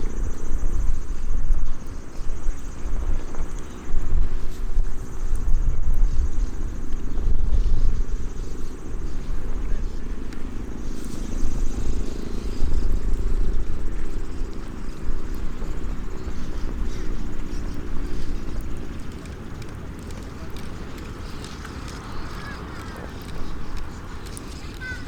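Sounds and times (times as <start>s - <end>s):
small wood fire crackling: 0.0s - 25.0s.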